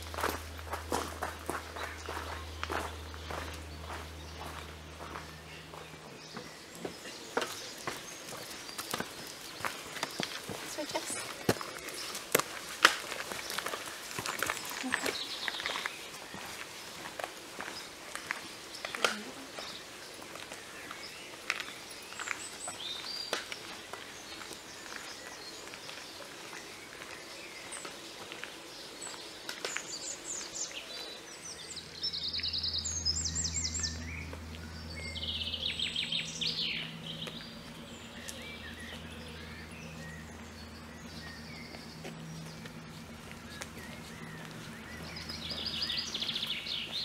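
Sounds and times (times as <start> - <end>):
low steady hum: 0.0 - 26.0, 26.6 - 47.0
songbirds chirping and trilling: 0.0 - 47.0.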